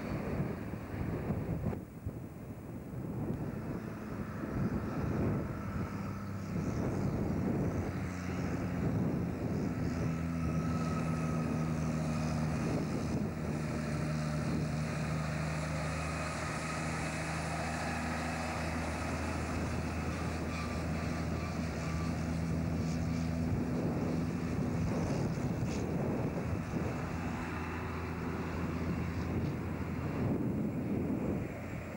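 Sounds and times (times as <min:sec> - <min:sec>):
road and tyre noise: 0:00.0 - 0:31.9
truck diesel engine passing: 0:03.3 - 0:31.9.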